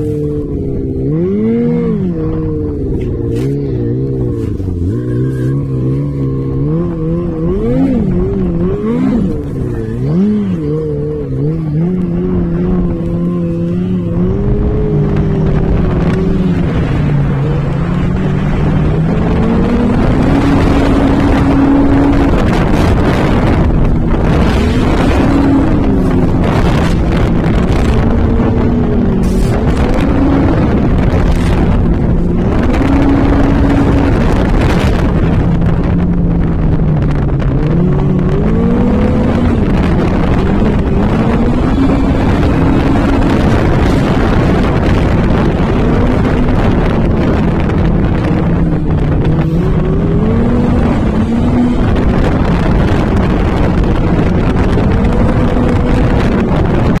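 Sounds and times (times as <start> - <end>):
vehicle engine revving under load: 0.0 - 57.0
wind noise on microphone: 0.0 - 57.0.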